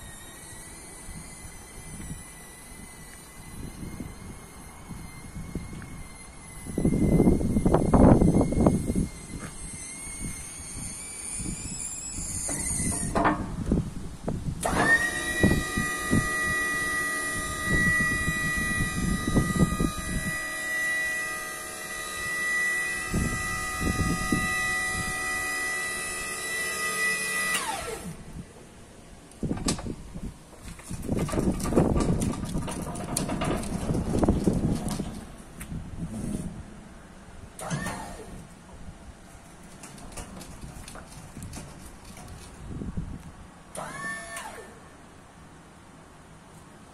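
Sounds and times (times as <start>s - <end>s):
hydraulic pump motor whining: 0.0s - 13.8s, 14.6s - 28.4s, 29.4s - 36.6s, 37.6s - 38.6s, 39.4s - 42.6s, 43.7s - 44.8s.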